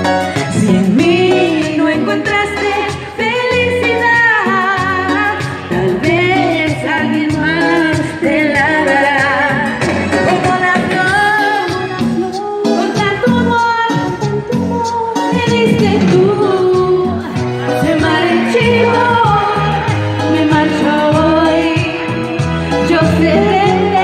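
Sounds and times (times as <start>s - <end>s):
karaoke backing track: 0.0s - 24.0s
woman singing into microphone: 0.0s - 24.0s.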